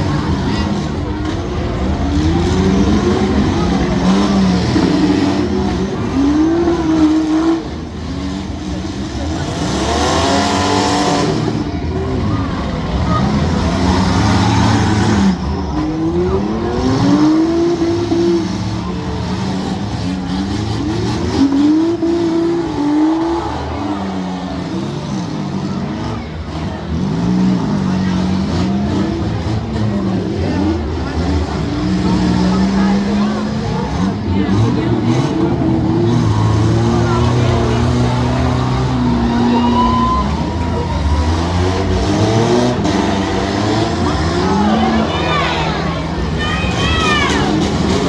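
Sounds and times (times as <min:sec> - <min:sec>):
car engines revving hard: 0:00.0 - 0:48.0.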